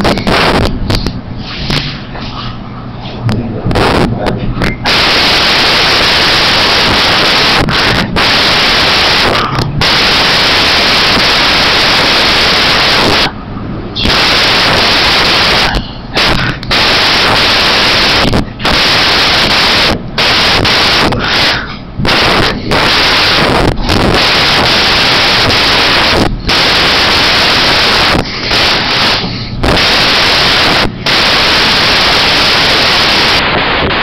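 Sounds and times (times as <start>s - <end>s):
harsh static hiss: 0.0s - 34.0s.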